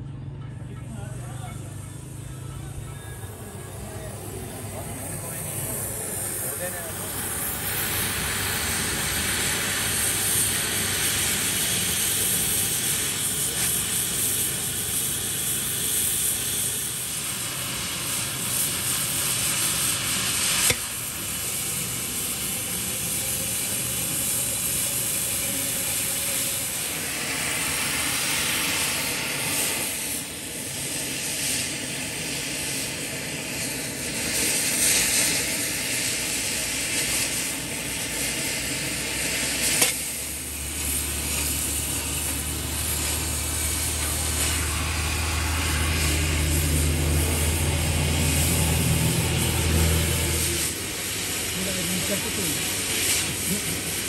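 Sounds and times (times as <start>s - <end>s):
cutting torch hissing: 0.9s - 54.0s.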